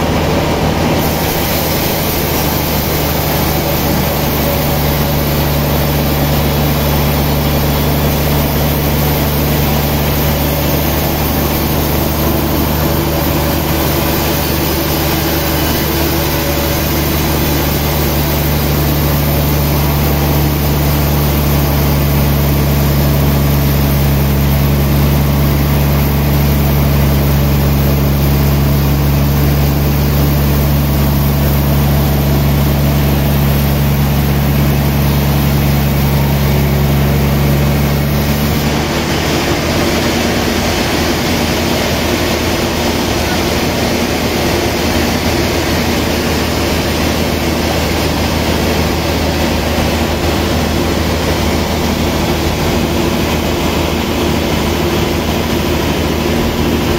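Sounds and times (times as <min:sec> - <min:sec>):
band saw cutting log: 0:00.0 - 0:56.9.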